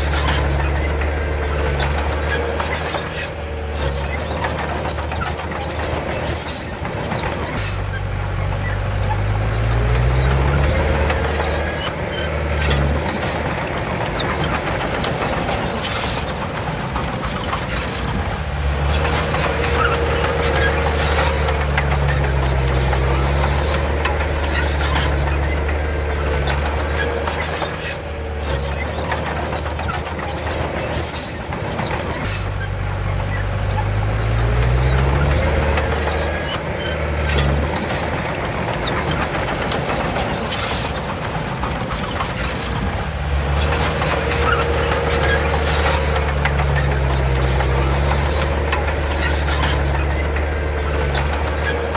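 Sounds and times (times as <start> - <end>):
bulldozer diesel engine under load: 0.0 - 51.9
high metallic squeaks: 0.0 - 51.9.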